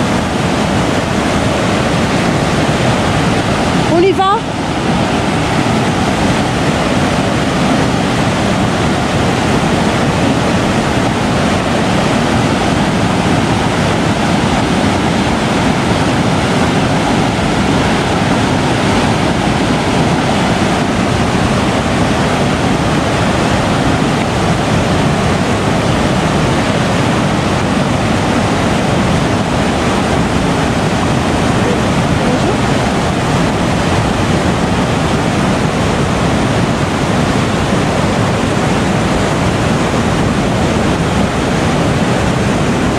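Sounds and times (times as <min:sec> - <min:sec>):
water rushing over weir: 0:00.0 - 0:42.9.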